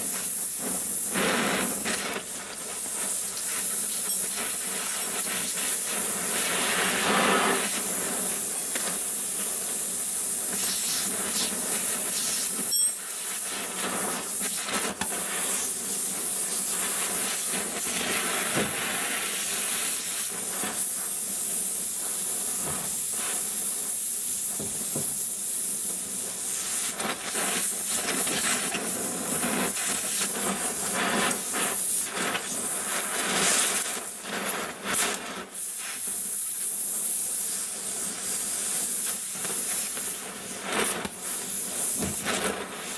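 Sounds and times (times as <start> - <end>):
torch flame hissing: 0.0 - 42.9.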